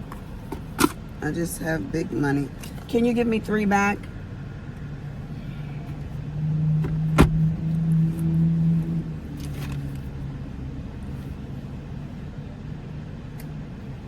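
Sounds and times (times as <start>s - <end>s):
air conditioner hum: 0.0s - 14.0s
idling car hum: 0.0s - 14.0s.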